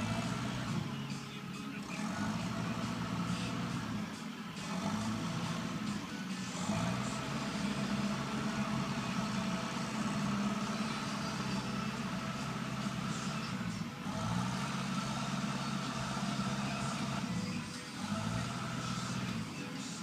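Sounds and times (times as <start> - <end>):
large engine running: 0.0 - 20.0.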